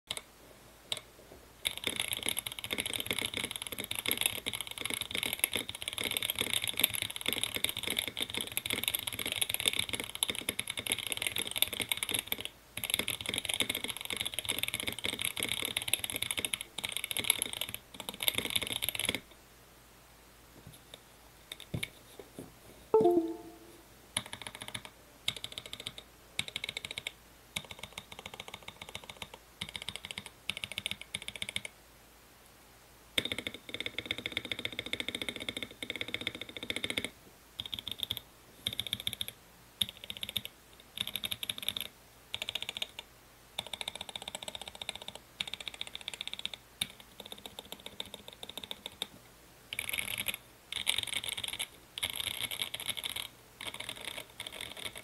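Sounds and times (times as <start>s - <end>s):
fast mechanical keyboard typing: 1.6s - 19.2s, 24.2s - 31.7s, 33.2s - 43.0s, 43.6s - 49.1s, 49.7s - 55.0s.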